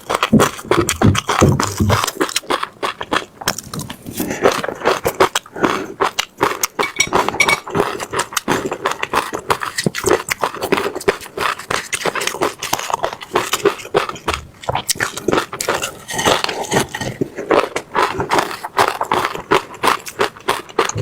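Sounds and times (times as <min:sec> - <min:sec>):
seeds crunching between teeth: 0:00.0 - 0:16.9, 0:17.5 - 0:21.0.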